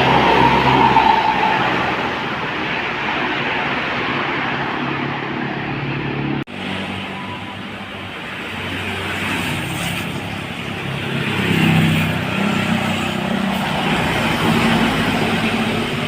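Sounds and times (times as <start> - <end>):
bus engine and tyre noise: 0.0 - 16.0.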